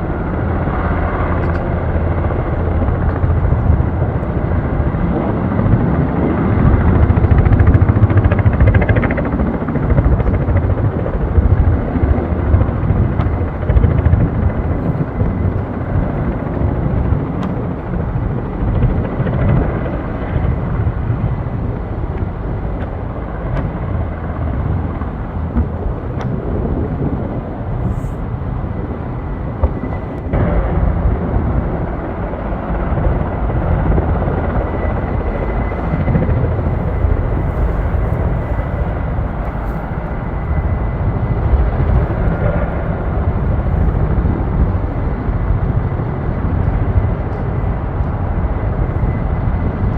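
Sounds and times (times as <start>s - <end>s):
helicopter flying: 0.0s - 49.9s.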